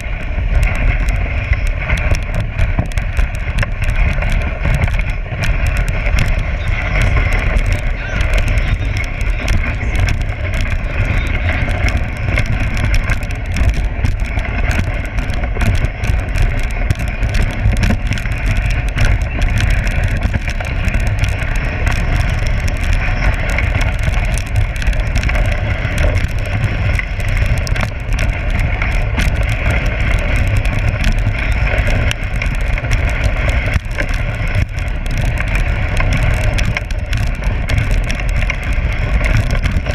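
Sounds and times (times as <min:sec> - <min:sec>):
sled runners on snow: 0:00.0 - 0:39.9.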